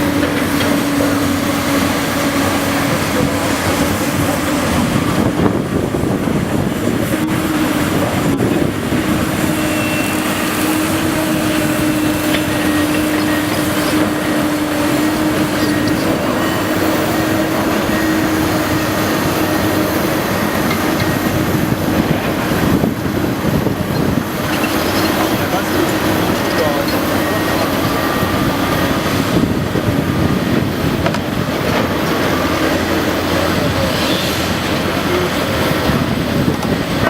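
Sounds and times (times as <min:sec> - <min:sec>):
excavator diesel engine under load: 0:00.0 - 0:37.0
steady machine whine: 0:00.0 - 0:37.0.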